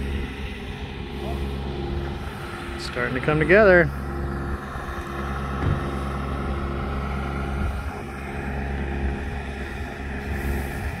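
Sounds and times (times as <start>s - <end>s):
engine droning steadily: 0.0s - 11.0s.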